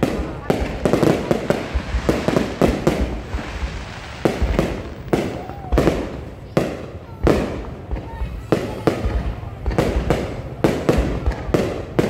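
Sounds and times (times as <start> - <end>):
fireworks bursting: 0.0 - 12.0
fireworks rumble and crackle: 0.0 - 12.0.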